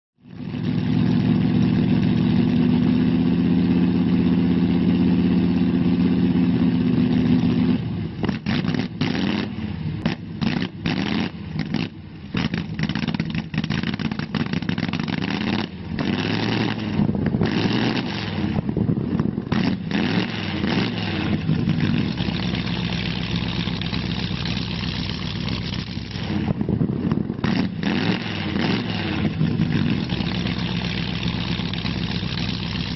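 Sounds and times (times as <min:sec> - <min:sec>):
engine revving: 0:00.2 - 0:32.9.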